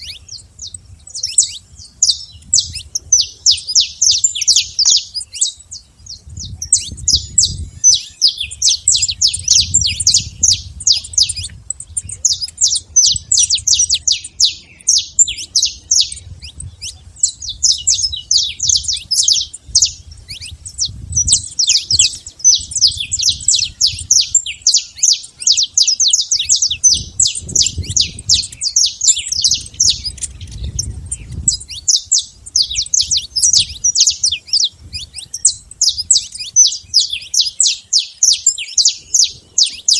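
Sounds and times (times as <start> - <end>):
finch singing sharp high chirps: 0.0 - 39.9.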